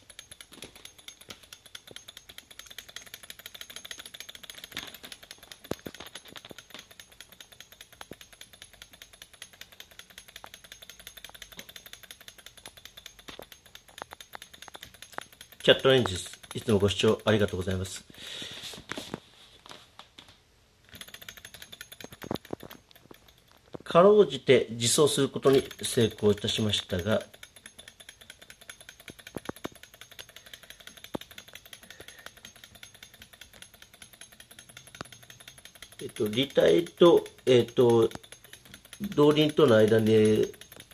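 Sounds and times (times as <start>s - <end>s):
model engine clattering: 0.0s - 18.2s, 20.9s - 40.9s.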